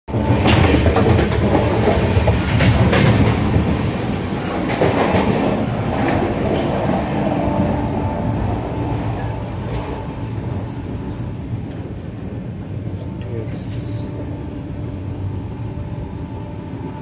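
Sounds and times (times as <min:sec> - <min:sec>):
train running rumble: 0:00.1 - 0:17.0.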